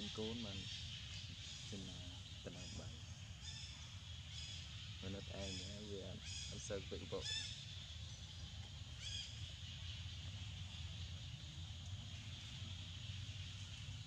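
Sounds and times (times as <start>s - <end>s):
harsh bird calls: 0.0s - 14.0s
low background rumble: 0.0s - 14.0s
steady high hiss: 0.0s - 14.0s.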